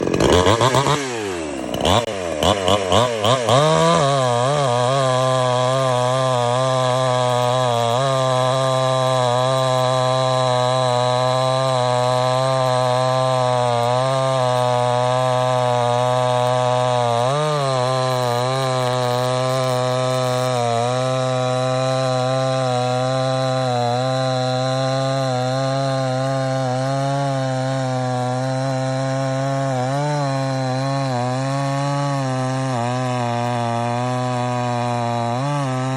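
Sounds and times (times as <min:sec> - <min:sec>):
chainsaw running: 0:00.0 - 0:35.9.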